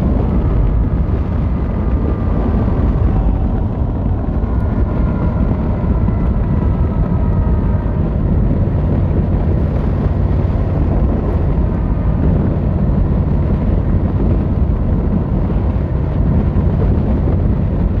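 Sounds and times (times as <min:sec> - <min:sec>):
motorcycle engine rumbling: 0:00.0 - 0:18.0
wind noise on microphone: 0:00.0 - 0:18.0.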